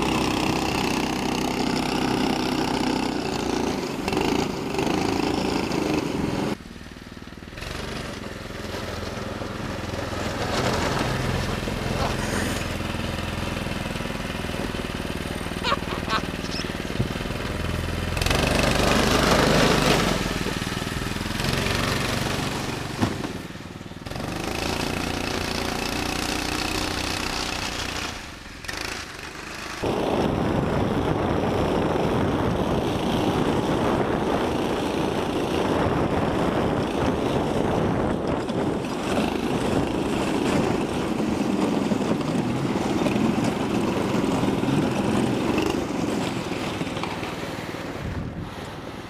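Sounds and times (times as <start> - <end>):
small engine running hard: 0.0 - 49.0.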